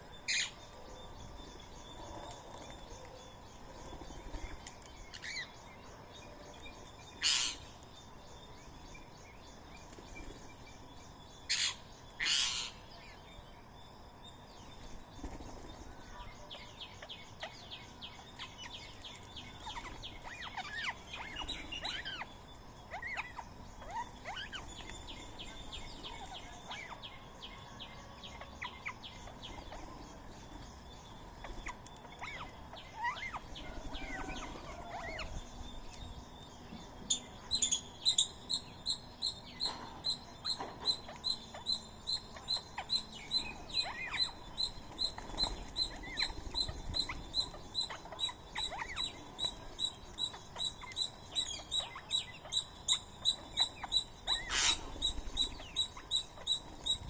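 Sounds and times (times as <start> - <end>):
birds chirping and whistling: 0.0 - 13.4, 14.3 - 57.0.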